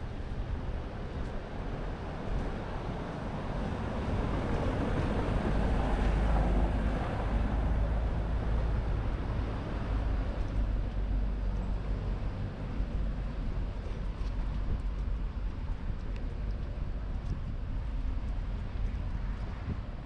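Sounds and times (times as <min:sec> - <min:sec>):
car driving on cobblestones: 0:00.0 - 0:20.0
low rumble: 0:00.0 - 0:20.0.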